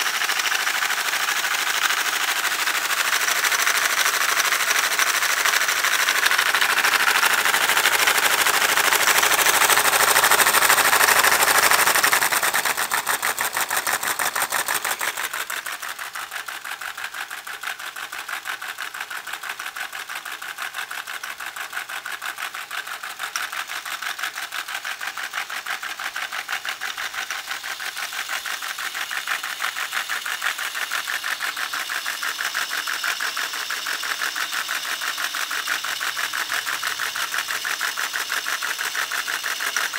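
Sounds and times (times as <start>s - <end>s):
model engine clattering: 0.0s - 39.9s.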